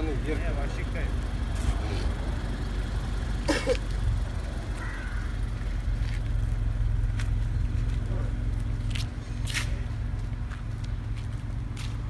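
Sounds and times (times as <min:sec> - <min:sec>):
deep exhaust rumble idling: 0:00.0 - 0:12.0.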